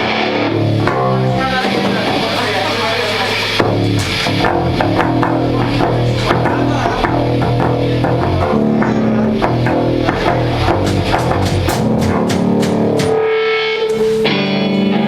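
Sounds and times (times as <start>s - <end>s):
drum kit beat: 0.0s - 14.7s
bass guitar: 0.0s - 15.0s
electric guitar: 0.0s - 15.0s.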